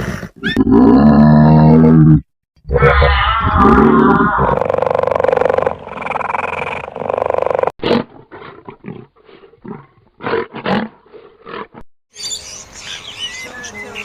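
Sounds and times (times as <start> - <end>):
big cat roaring: 0.0 - 11.8.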